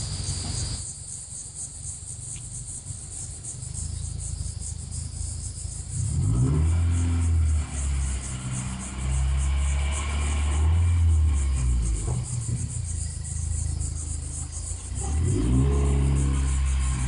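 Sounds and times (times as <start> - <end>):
crickets chirping: 0.0 - 17.0
car engine accelerating: 1.8 - 17.0.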